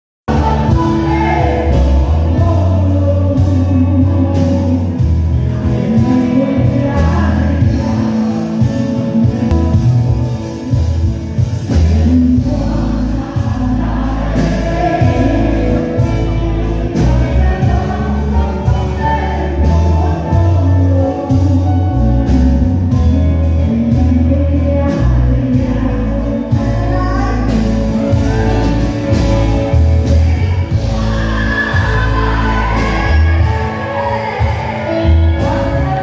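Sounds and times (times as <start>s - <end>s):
woman singing: 0.3s - 9.9s, 11.6s - 36.0s
drum kit: 0.3s - 36.0s
electric guitars: 0.3s - 36.0s
heavy bass line: 0.3s - 36.0s.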